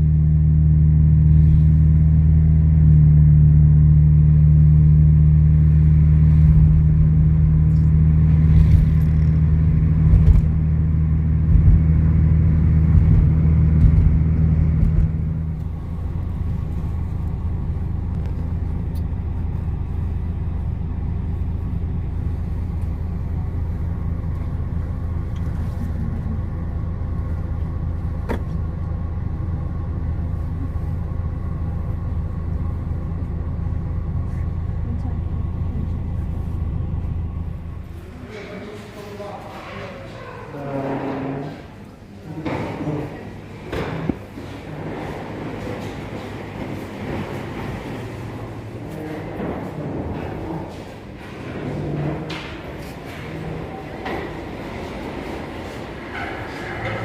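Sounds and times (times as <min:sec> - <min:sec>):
vehicle engine drone with low hum: 0:00.0 - 0:57.0.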